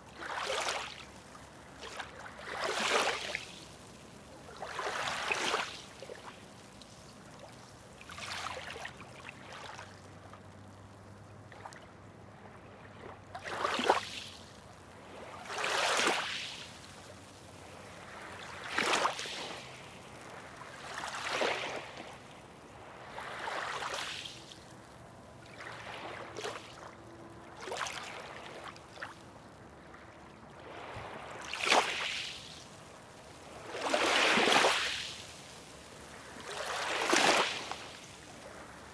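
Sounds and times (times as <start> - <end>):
small waves breaking: 0.0 - 38.9.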